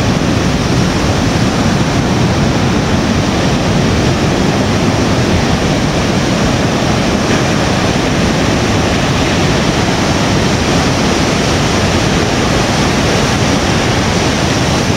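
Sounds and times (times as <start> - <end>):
surf breaking over rocks: 0.0 - 14.9.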